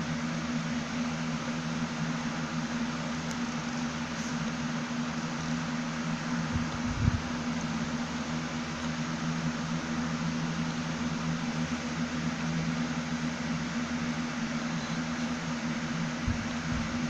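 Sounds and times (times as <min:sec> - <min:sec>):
motor hum and hiss: 0:00.0 - 0:17.0.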